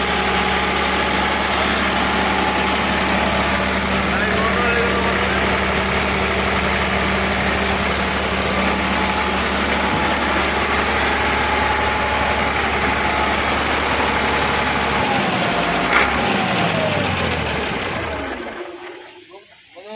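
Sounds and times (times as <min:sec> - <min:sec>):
diesel engine idling: 0:00.0 - 0:19.8.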